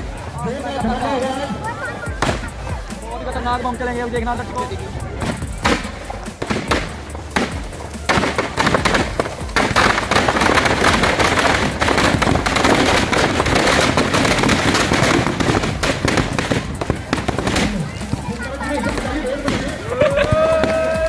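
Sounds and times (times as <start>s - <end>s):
firecrackers popping: 0.0s - 21.0s.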